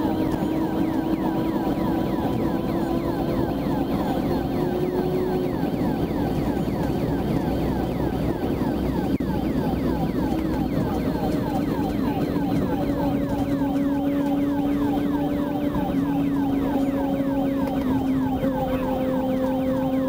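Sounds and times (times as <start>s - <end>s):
car engine drone: 0.0s - 20.0s
police siren yelping: 0.0s - 20.0s
road noise: 0.0s - 20.0s.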